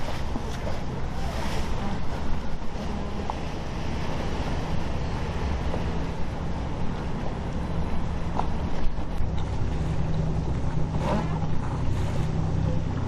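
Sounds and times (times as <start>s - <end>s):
boat engines humming: 0.0s - 13.0s
rush of boat wake: 0.0s - 13.0s.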